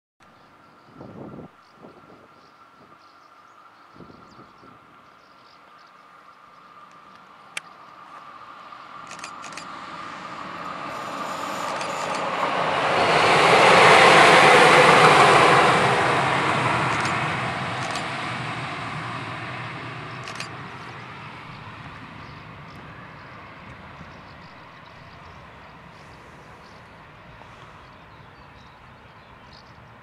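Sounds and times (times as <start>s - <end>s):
electric locomotive passing: 0.4s - 30.0s.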